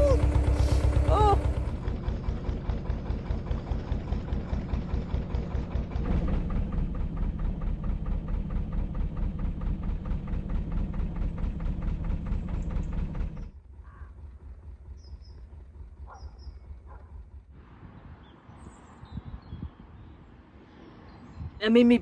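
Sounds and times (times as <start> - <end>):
boat engine chugging: 0.0 - 18.8.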